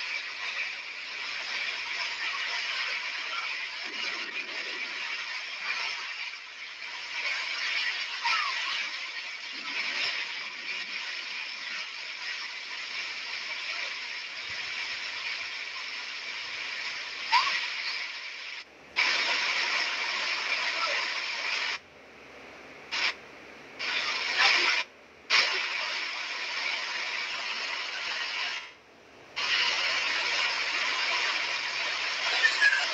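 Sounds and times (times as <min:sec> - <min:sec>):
heavy rain hissing: 0:00.0 - 0:21.8, 0:23.8 - 0:28.8, 0:29.4 - 0:32.9.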